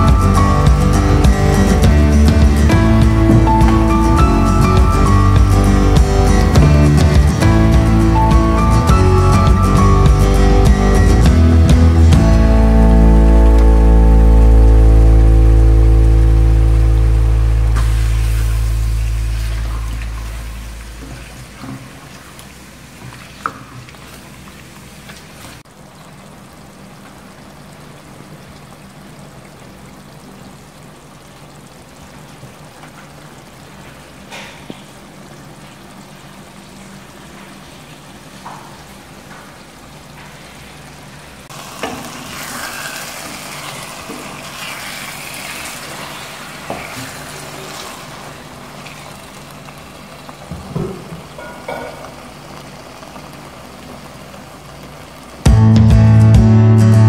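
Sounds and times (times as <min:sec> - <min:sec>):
curry sauce simmering and sizzling: 0:00.0 - 0:55.8.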